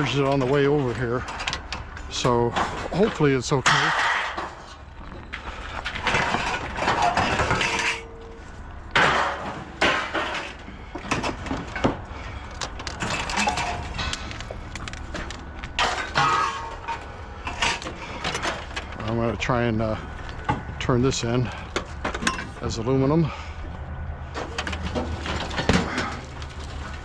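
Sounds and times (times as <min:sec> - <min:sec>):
scrap metal clattering and scraping: 0:00.0 - 0:27.0.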